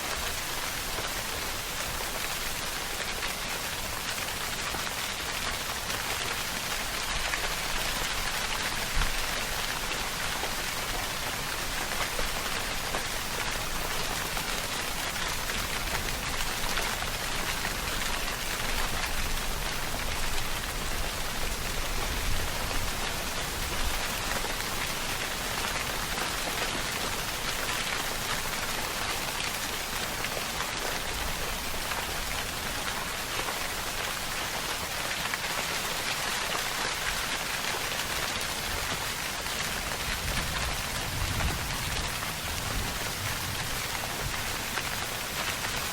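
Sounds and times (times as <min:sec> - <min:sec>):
raindrops pattering: 0:00.1 - 0:45.9.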